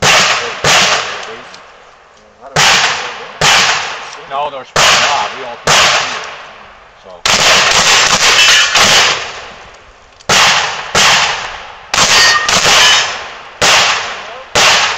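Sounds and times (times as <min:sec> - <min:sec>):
shotgun shots: 0:00.0 - 0:01.6, 0:02.5 - 0:06.6, 0:07.2 - 0:09.6, 0:10.3 - 0:14.9.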